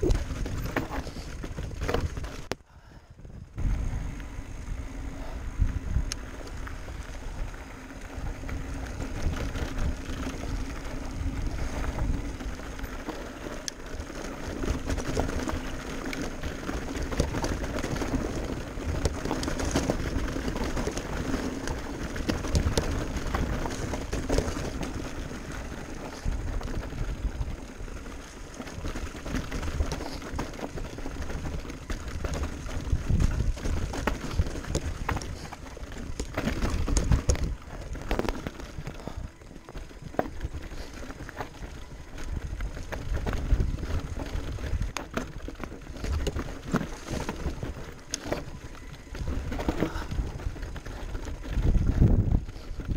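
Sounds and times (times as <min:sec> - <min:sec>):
tyres rumbling over dirt and rocks: 0:00.0 - 0:02.6, 0:03.6 - 0:52.9
wind buffeting microphone: 0:00.0 - 0:13.2, 0:13.8 - 0:52.9
bike clicks and rattles: 0:00.0 - 0:52.9.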